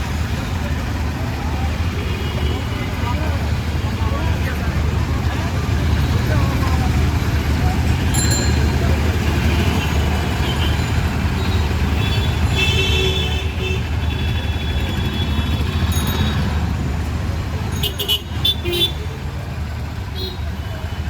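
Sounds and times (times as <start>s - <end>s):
vehicle engines rumbling: 0.0s - 21.0s
voices: 0.0s - 21.0s.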